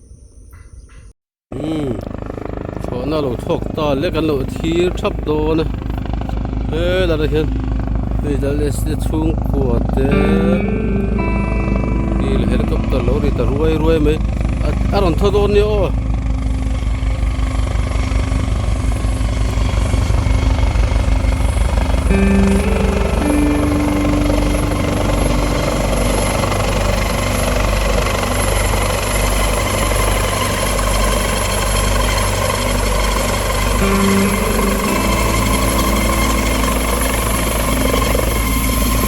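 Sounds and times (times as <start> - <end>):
helicopter rotor chop: 1.6 - 10.2, 12.6 - 39.0
steady humming tones: 1.6 - 39.0.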